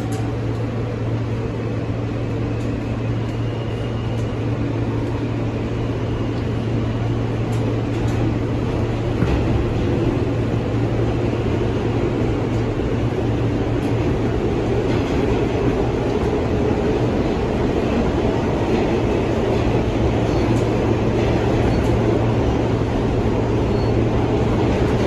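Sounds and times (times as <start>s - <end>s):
constant low hum: 0.0s - 25.0s
subway wheels rumbling on rail: 0.0s - 25.0s.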